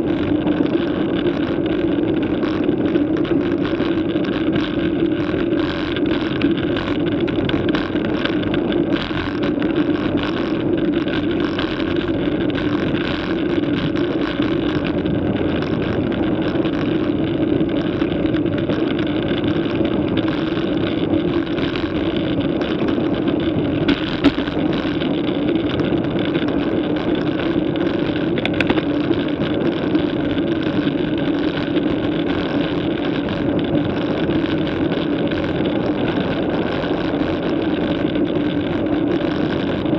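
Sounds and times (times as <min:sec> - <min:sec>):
constant low hum: 0:00.0 - 0:39.9
wind and road noise: 0:00.0 - 0:39.9.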